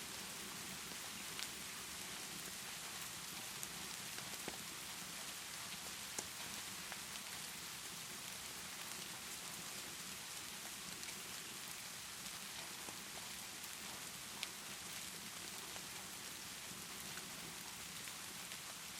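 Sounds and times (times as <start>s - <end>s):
rainfall hiss: 0.0s - 18.9s.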